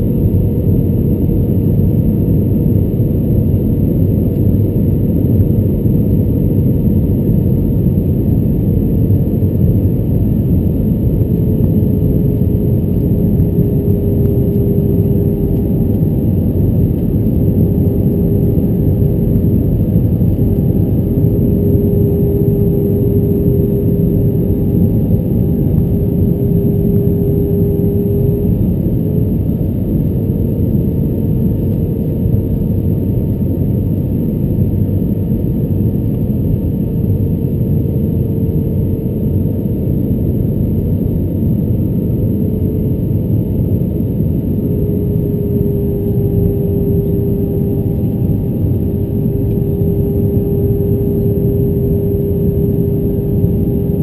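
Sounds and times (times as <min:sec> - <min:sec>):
airflow and jet engines rumbling: 0:00.0 - 0:54.0
faint engine drone: 0:00.0 - 0:54.0.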